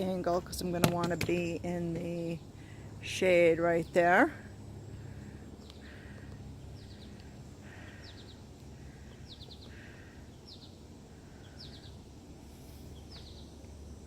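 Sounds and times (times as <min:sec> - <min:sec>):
low background rumble: 0:00.0 - 0:14.0
songbird chirping: 0:00.0 - 0:14.0.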